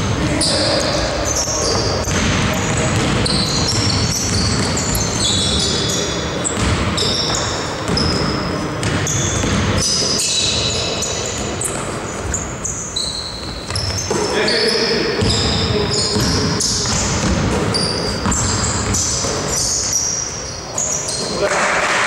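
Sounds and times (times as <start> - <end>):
sneakers squeaking on floor: 0.0 - 22.0
basketball dribbling: 0.4 - 14.3, 15.2 - 20.0.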